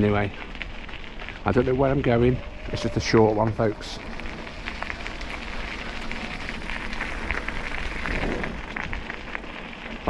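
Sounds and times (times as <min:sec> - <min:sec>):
wheels rolling along a path: 0:00.0 - 0:10.0.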